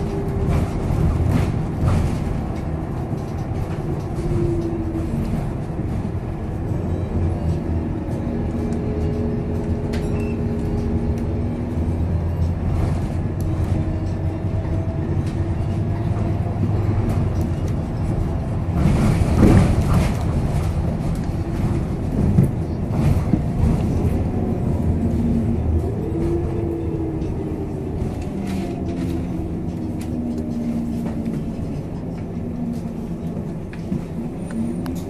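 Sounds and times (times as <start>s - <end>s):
bus engine drone with whine: 0.0s - 35.0s.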